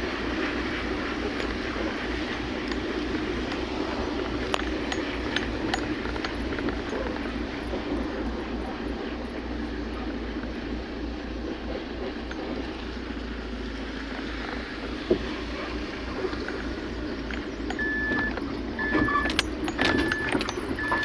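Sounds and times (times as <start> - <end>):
constant hum: 0.0 - 21.0
vehicle running rumble: 0.0 - 21.0.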